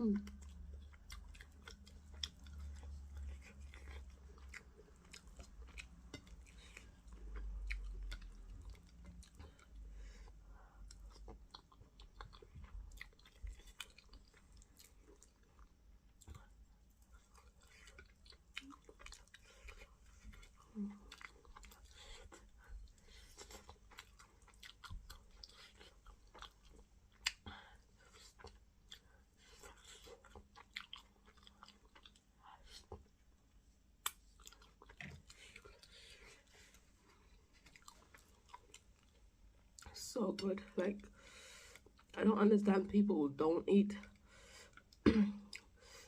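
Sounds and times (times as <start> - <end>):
person chewing: 0.0 - 33.3, 34.0 - 40.0, 41.0 - 42.2, 44.1 - 46.0.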